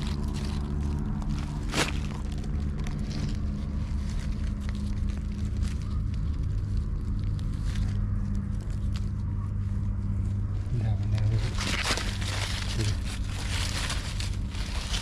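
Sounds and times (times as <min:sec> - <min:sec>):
dry leaves crackling and rustling: 0:00.0 - 0:15.0
steady low hum: 0:00.0 - 0:15.0.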